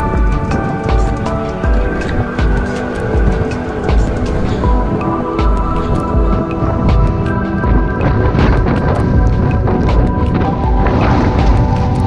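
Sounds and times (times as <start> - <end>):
deep bass thuds: 0.0 - 12.0
sustained music chords: 0.0 - 12.0.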